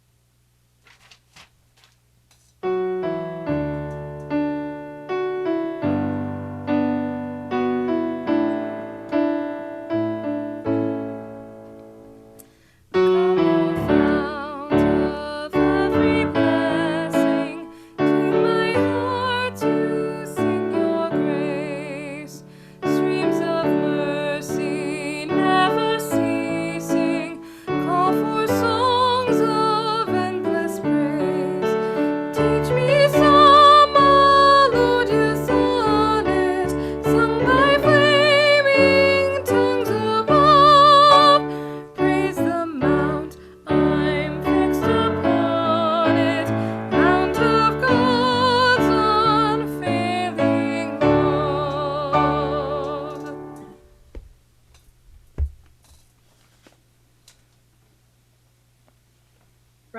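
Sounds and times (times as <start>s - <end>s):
piano chords: 2.6s - 54.2s.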